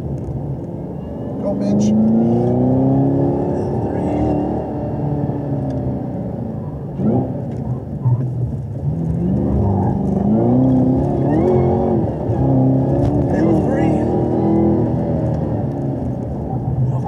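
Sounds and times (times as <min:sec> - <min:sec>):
car engine revving and accelerating: 0:00.8 - 0:17.0.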